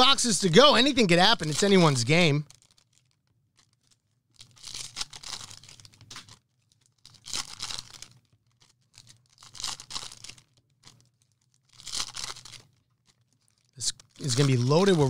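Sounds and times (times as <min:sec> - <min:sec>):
card pack wrappers tearing: 0:00.6 - 0:15.0.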